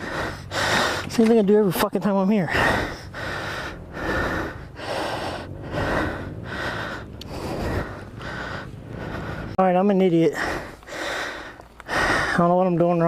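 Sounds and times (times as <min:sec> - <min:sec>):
man breathing hard: 0:00.0 - 0:01.3, 0:02.4 - 0:09.6, 0:10.3 - 0:12.6.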